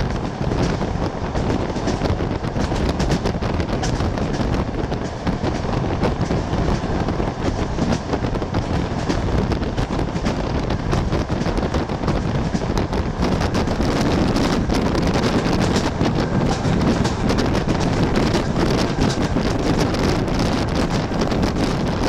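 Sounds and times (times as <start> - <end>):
train wheels rumbling on rails: 0.0 - 22.0
rattling and clicking: 0.1 - 22.0.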